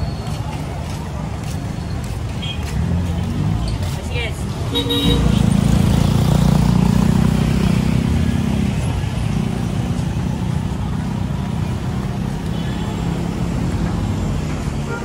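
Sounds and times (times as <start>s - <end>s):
cars passing: 0.0s - 15.0s
motorcycle engines running: 2.7s - 15.0s.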